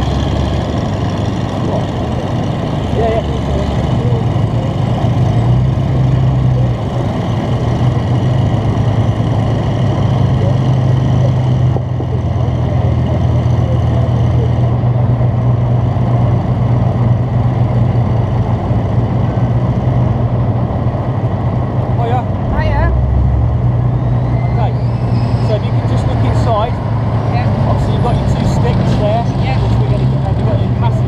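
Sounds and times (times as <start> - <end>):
armoured vehicle engine idling: 0.0 - 31.0.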